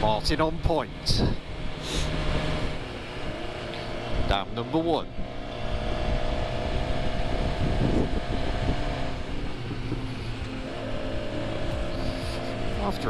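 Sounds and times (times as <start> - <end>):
motorcycle engine running: 0.0 - 13.0
road and wind noise: 0.0 - 13.0
steady whine: 0.0 - 13.0.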